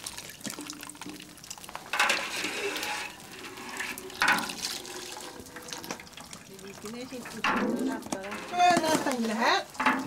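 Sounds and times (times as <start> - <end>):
liquid splashing into metal pot: 0.0 - 10.0.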